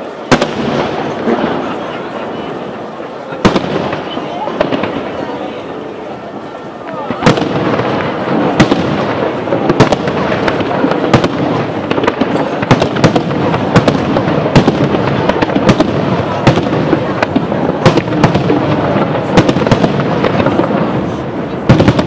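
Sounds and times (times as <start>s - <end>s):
background noise of display: 0.0s - 22.0s.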